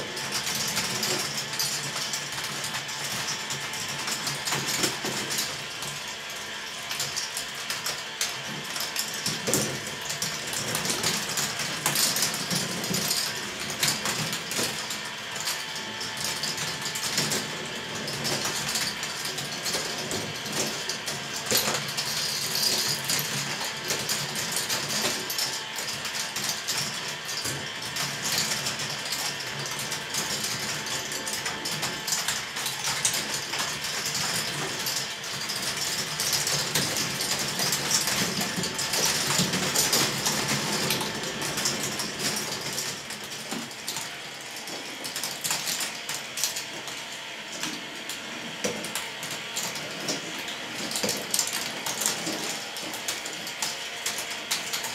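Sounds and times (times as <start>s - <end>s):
lift motors whirring: 0.0s - 54.9s
plastic balls clattering through track: 0.0s - 54.9s.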